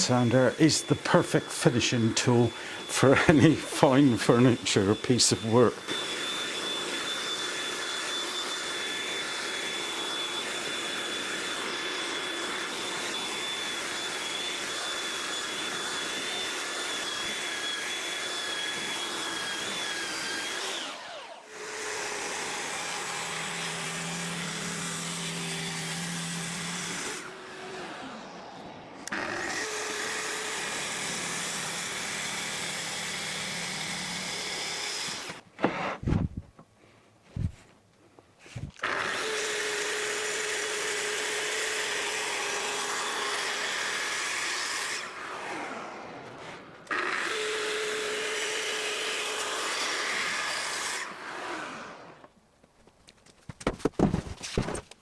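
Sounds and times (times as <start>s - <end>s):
belt sander sanding wood: 0.0s - 36.0s, 38.4s - 52.0s.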